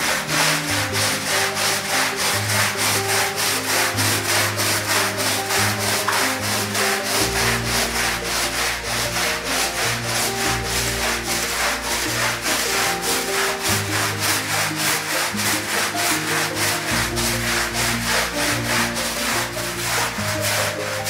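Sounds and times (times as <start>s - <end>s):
background music with held notes: 0.0s - 21.0s
scrub brush rasping on wet rug: 0.0s - 21.0s.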